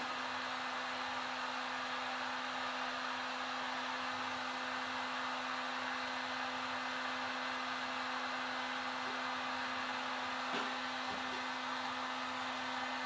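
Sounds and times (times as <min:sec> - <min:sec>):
heat gun running: 0:00.0 - 0:13.0.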